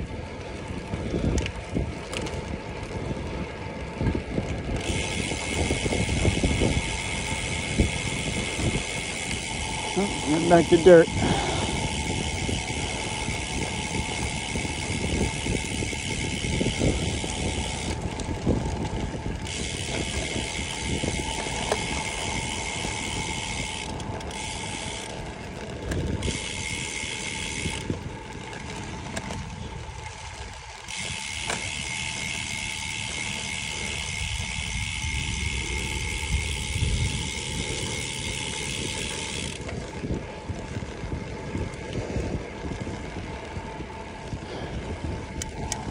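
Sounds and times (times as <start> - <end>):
bicycle freehub buzzing: 0.0 - 45.9
bicycle tyres rolling on gravel: 0.0 - 45.9
wind on microphone: 0.0 - 45.9.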